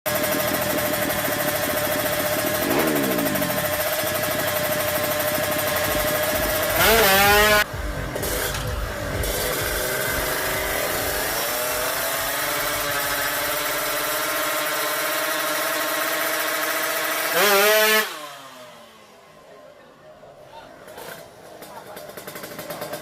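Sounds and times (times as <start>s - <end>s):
motorcycle engine at high revs: 0.1s - 19.6s, 20.8s - 23.0s.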